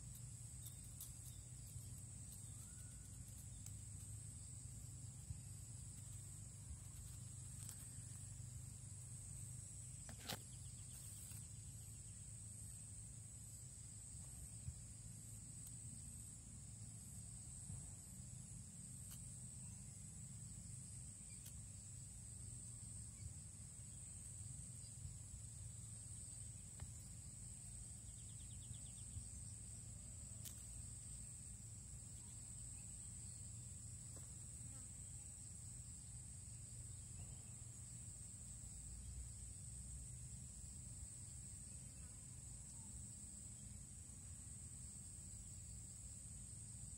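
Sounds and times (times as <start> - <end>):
insect chorus: 0.0 - 46.9.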